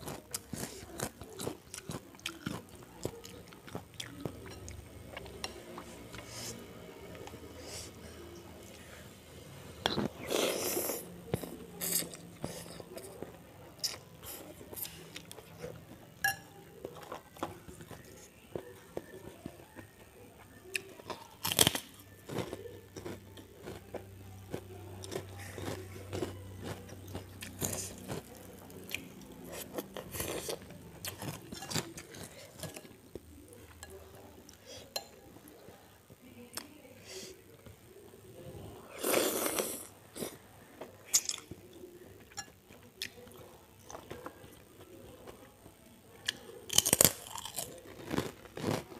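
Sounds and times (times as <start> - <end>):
crackers crunching: 0.0 - 6.3, 9.8 - 35.7, 39.0 - 48.9
chewing: 0.0 - 6.6, 9.8 - 35.9, 39.0 - 48.9.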